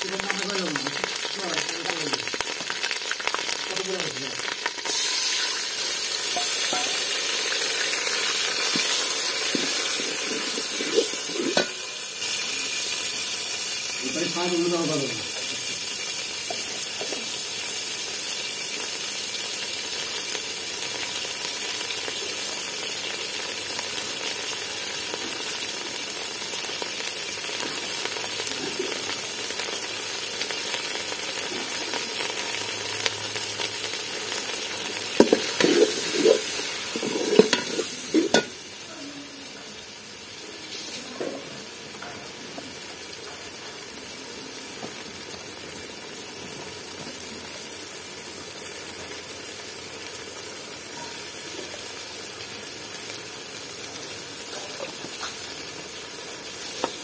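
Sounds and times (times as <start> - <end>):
curry sizzling in a pot: 0.0 - 57.0.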